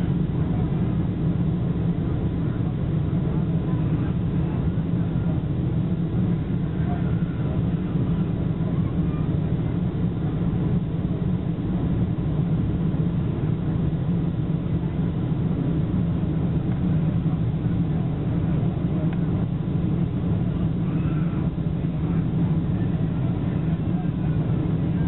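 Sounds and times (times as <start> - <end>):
airplane cabin rumble: 0.0 - 25.0
faint steady whine: 0.0 - 25.0.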